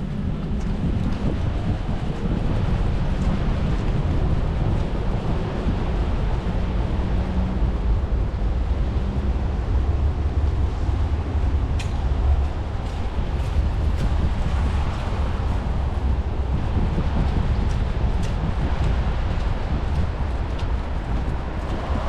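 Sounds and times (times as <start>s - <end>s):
traffic rumble: 0.0s - 22.0s
wind buffeting microphone: 0.0s - 22.0s.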